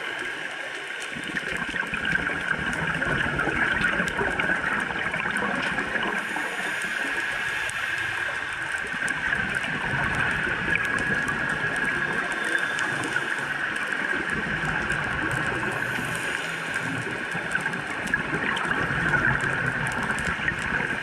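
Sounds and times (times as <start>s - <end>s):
muffled underwater hiss: 0.0s - 21.0s
faint clicks: 0.2s - 21.0s.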